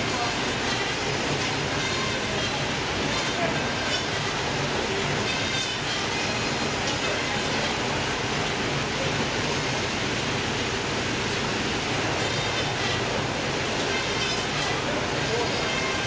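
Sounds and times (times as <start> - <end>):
machinery and conveyor belts rushing: 0.0 - 16.0.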